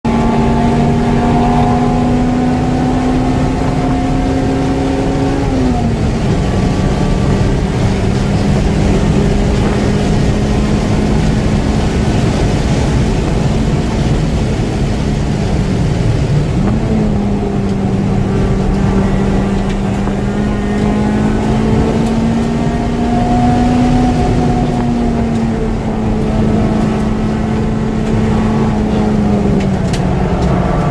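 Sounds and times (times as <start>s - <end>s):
car engine at high revs: 0.0s - 30.9s
wind and road noise: 0.0s - 30.9s.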